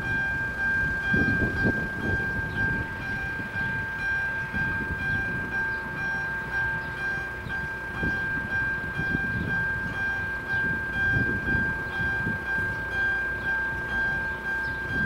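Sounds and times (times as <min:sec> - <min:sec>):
level crossing warning tone: 0:00.0 - 0:15.0.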